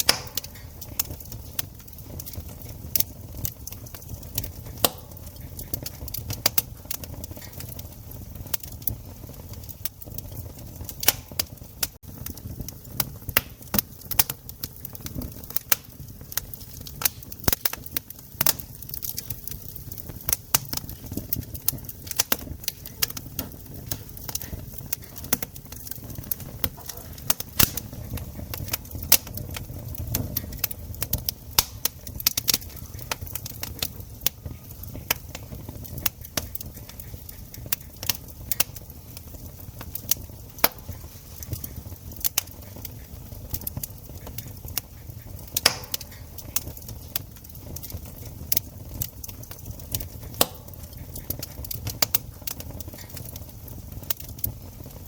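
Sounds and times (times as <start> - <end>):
campfire wood crackling: 0.0 - 55.0.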